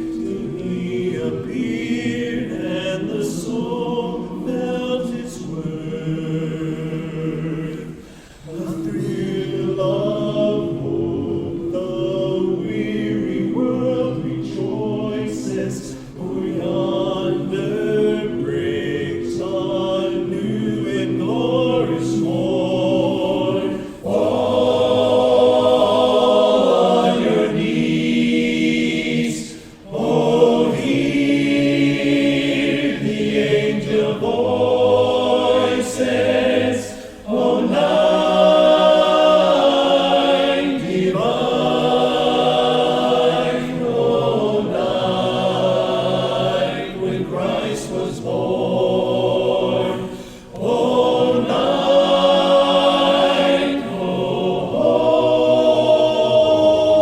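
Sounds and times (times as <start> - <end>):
men singing a cappella harmony: 0.0 - 57.0.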